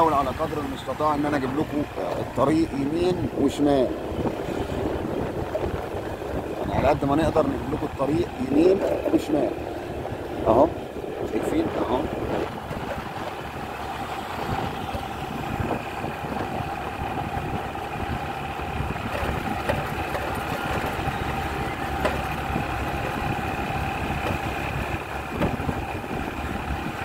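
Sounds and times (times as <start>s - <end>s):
engine whine: 0.0s - 27.0s
road noise: 0.0s - 27.0s
motorbike engine running: 3.8s - 27.0s.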